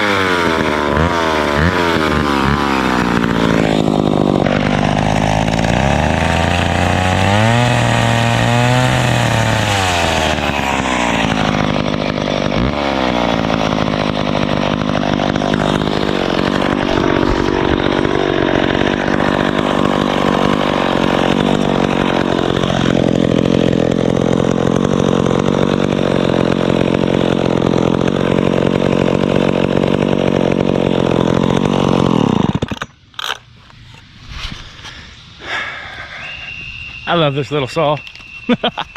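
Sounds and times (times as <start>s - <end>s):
chainsaw cutting wood: 0.0s - 37.2s, 37.8s - 38.9s.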